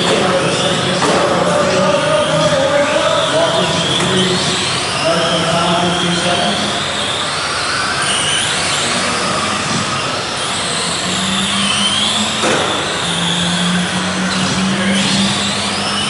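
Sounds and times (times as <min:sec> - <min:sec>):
electric rc trucks whining: 0:00.0 - 0:16.0.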